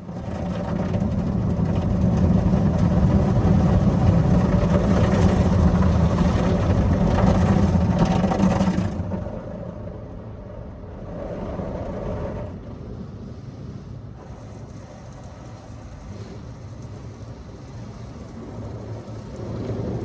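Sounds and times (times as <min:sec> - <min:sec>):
car wash rumbling: 0:00.0 - 0:20.0.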